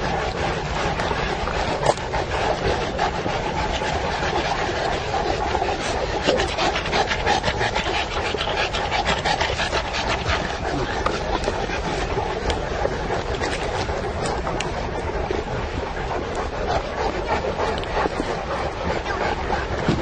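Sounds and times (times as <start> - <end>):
dogs panting: 0.0 - 20.0
steady rustle: 0.0 - 20.0.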